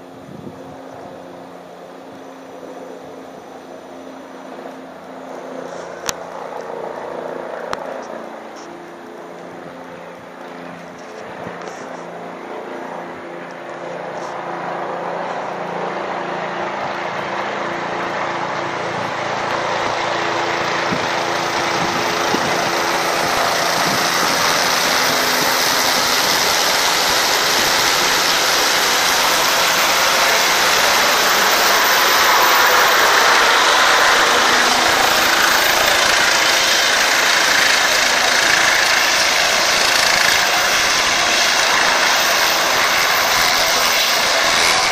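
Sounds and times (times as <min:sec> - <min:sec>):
helicopter rotor and turbine: 0:00.0 - 0:44.9.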